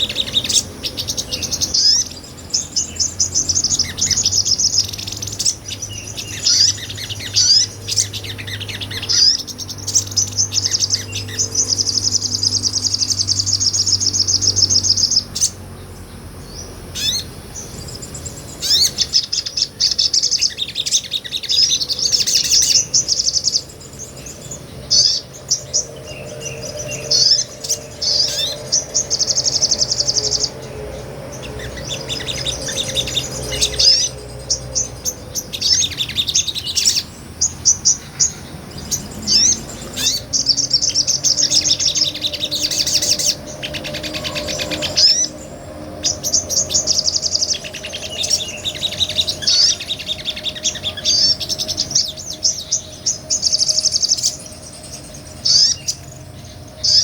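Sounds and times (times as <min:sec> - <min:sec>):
bird trilling and twittering: 0:00.0 - 0:57.0.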